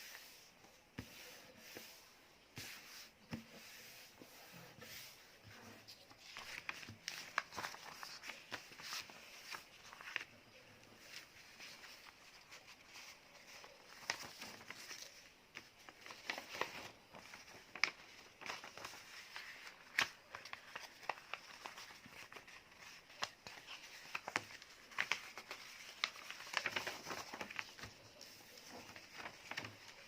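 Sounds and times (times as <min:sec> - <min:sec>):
paper crinkling: 0:04.4 - 0:30.0.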